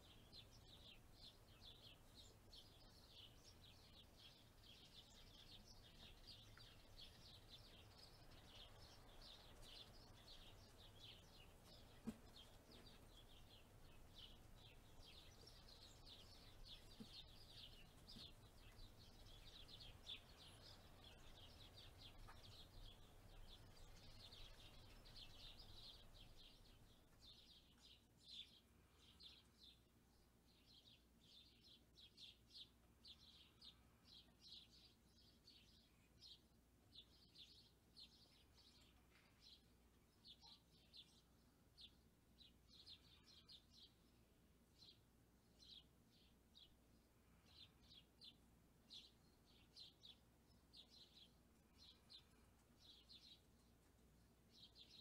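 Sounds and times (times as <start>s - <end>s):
faint birds chirping: 0.0s - 55.0s.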